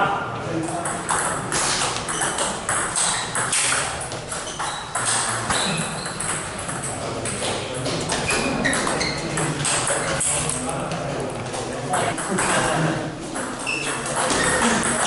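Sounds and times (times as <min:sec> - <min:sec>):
distant ping pong clicks: 0:00.7 - 0:15.0.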